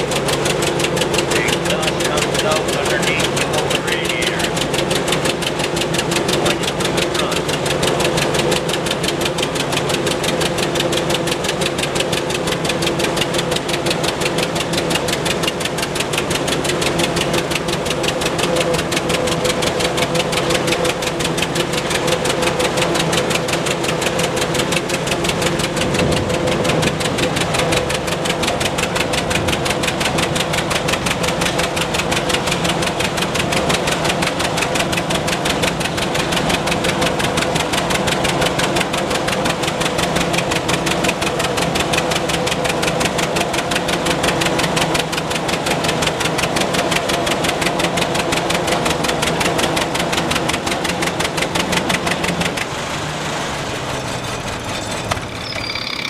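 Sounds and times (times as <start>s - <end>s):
tractor engine exhaust beat: 0.0s - 56.0s.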